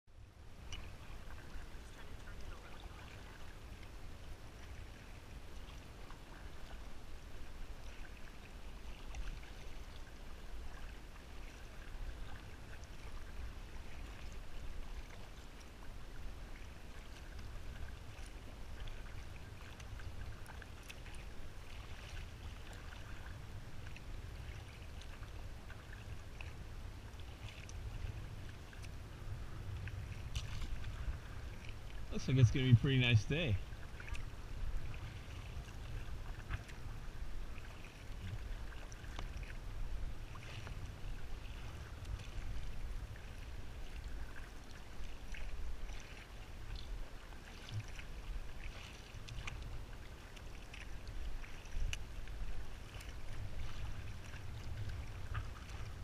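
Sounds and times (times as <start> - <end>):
waves lapping at hull: 0.1 - 56.0
paddle splashing in water: 0.4 - 56.0.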